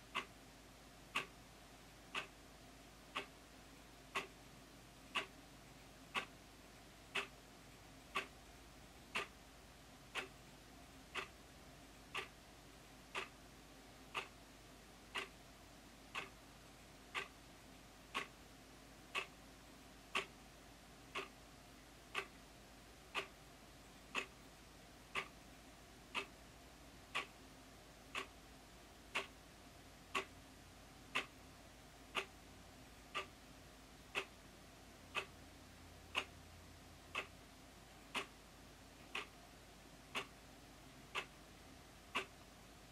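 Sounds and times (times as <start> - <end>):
wall clock ticking: 0.0 - 0.4, 1.0 - 14.4, 15.0 - 19.4, 20.0 - 20.4, 21.0 - 21.4, 22.0 - 42.9.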